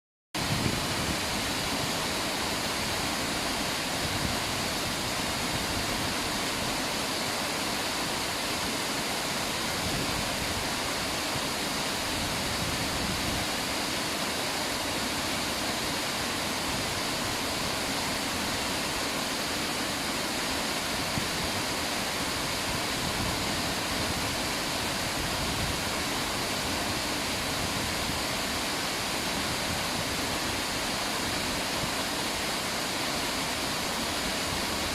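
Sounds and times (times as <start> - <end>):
river water rushing: 0.4 - 34.9.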